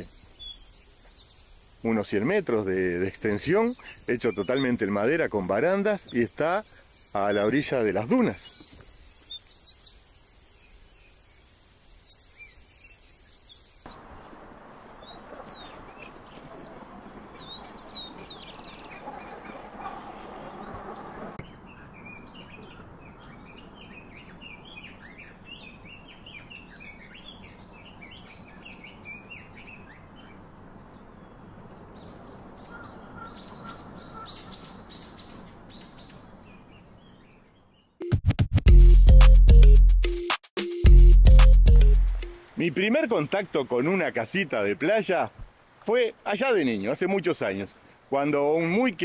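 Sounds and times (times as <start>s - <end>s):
background hiss: 0.0s - 37.8s, 41.4s - 49.0s
birds chirping: 0.0s - 38.0s, 40.9s - 49.0s.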